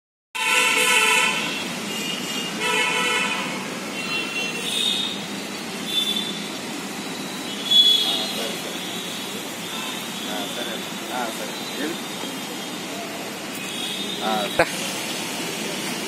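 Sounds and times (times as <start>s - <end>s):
vehicle horns honking: 0.4s - 6.5s, 7.1s - 12.9s, 13.5s - 14.8s
steady background noise: 0.4s - 16.0s.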